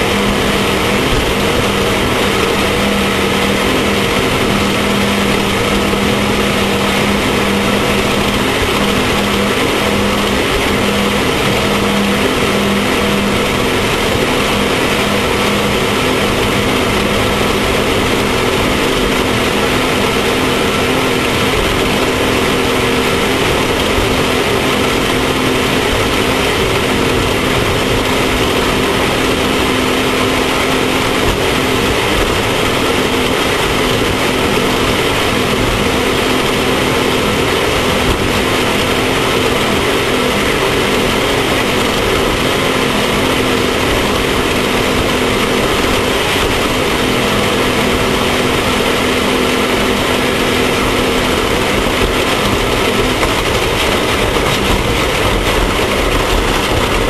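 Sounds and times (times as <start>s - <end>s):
continuous rushing noise: 0.0s - 57.0s
engine running hard: 0.0s - 57.0s.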